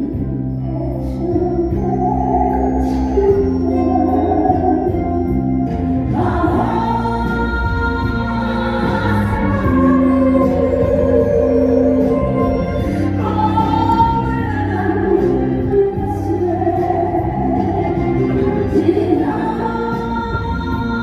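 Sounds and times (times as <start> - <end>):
instrumental backing track: 0.0 - 21.0.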